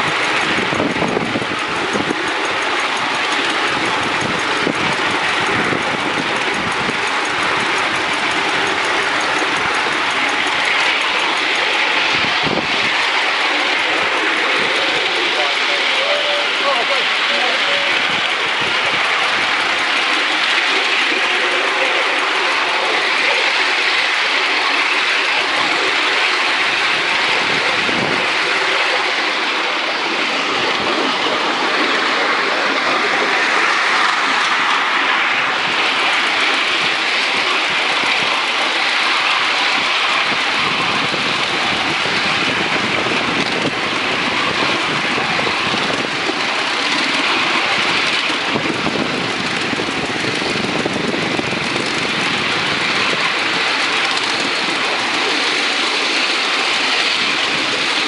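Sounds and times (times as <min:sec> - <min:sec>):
miniature steam locomotive running: 0:00.0 - 0:58.0.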